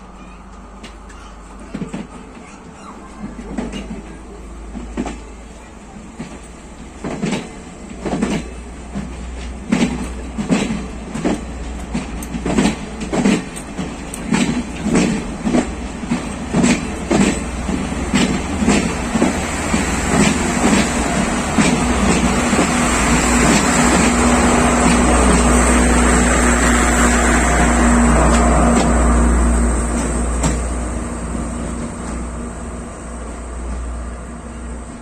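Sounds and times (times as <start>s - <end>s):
train low rumble: 0.0s - 35.0s
train wheels click-clacking: 0.2s - 35.0s.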